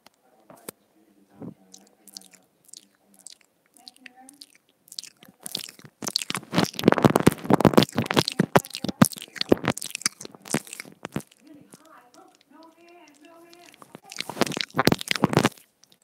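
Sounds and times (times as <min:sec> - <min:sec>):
crackling mouth clicks: 0:01.6 - 0:16.0.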